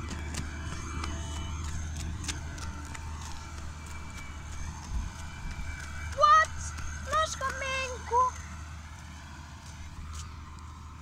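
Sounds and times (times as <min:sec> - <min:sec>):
footsteps crunching on sandy ground: 0:00.0 - 0:11.0
low hum: 0:00.0 - 0:11.0.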